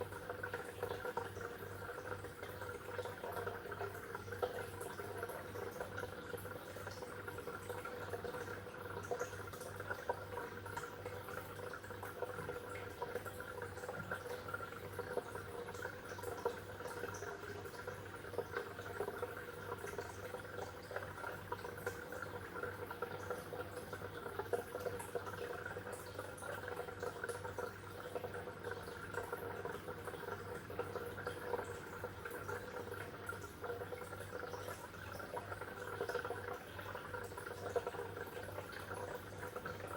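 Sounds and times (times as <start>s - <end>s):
water bubbling in a fish tank: 0.0s - 39.9s.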